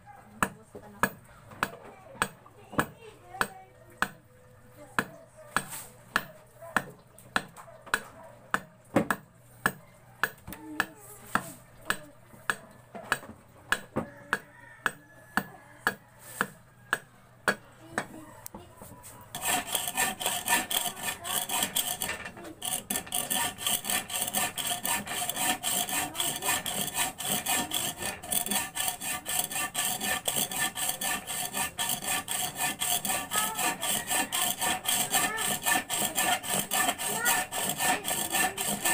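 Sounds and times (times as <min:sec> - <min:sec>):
hand saw cutting wood: 0:05.0 - 0:17.6, 0:19.1 - 0:38.9.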